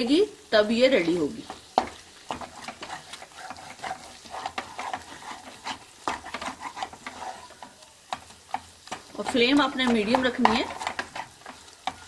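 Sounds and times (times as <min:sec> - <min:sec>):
light sizzle of ghee: 0:00.0 - 0:12.0
wooden spatula scraping a wok: 0:01.0 - 0:12.0.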